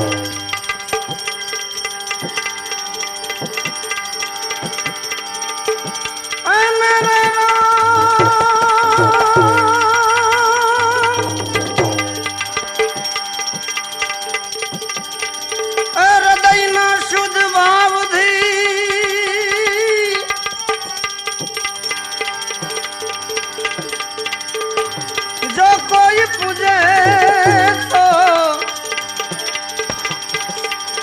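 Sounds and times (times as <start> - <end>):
held wavering melody: 0.0 - 31.0
tabla strokes: 0.0 - 31.0.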